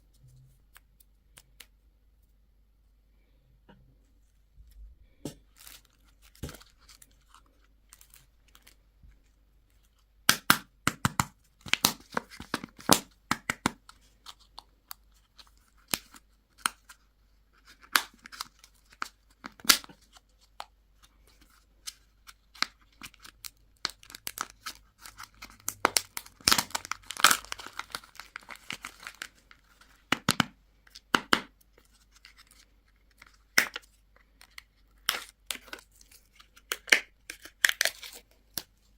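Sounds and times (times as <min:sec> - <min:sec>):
candy wrappers crinkling and tearing: 0:05.2 - 0:10.0, 0:11.6 - 0:38.9.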